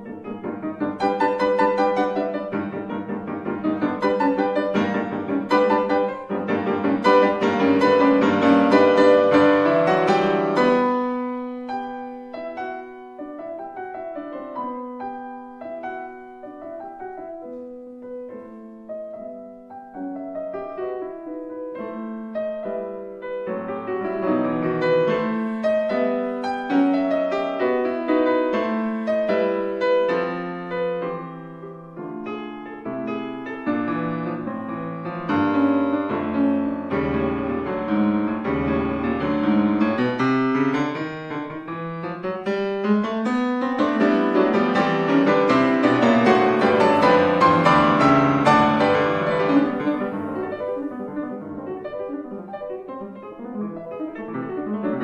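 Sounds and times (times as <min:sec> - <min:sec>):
solo piano: 0:00.0 - 0:55.0.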